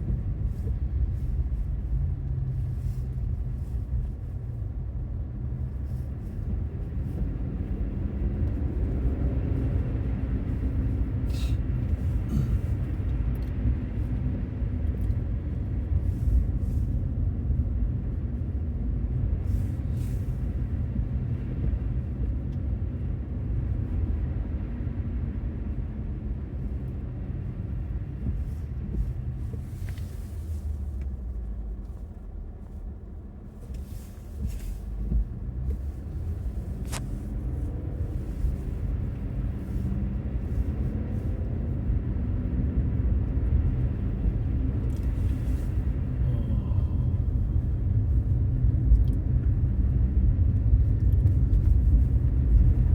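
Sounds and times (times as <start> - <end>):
low road rumble: 0.0 - 52.9.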